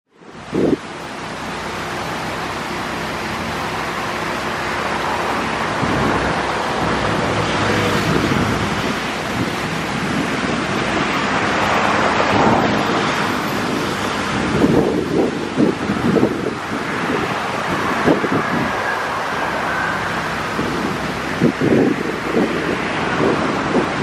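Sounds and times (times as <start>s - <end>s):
fountain water splashing: 0.1s - 24.0s
wind buffeting microphone: 0.2s - 24.0s.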